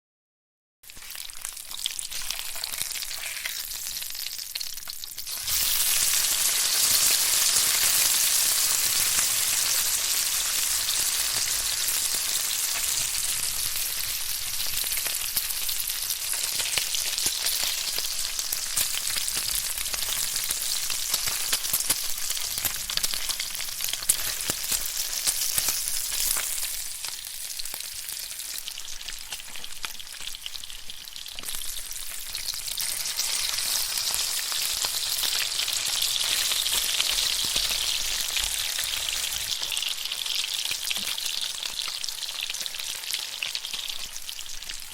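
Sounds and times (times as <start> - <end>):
bacon sizzling in a pan: 0.9 - 44.9.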